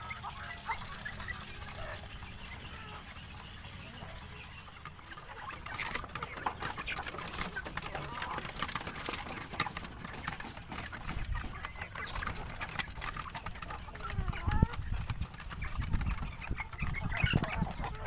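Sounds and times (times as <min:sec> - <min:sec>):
chickens clucking softly: 0:00.0 - 0:18.0.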